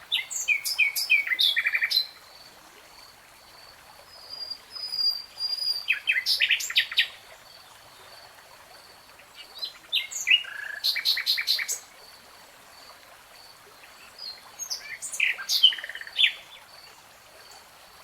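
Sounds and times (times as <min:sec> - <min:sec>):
songbird singing chirps and trills: 0:00.0 - 0:08.4, 0:09.1 - 0:11.9, 0:13.6 - 0:17.7.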